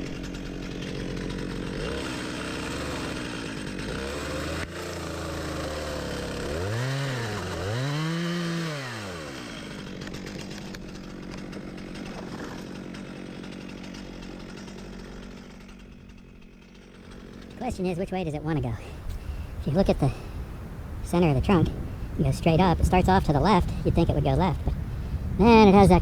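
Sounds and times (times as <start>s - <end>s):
chainsaw idling and revving: 0.0s - 25.9s.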